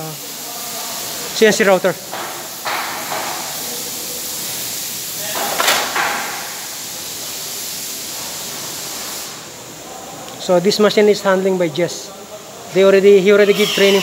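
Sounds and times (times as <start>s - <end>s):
workshop hissing noise: 0.0s - 14.0s.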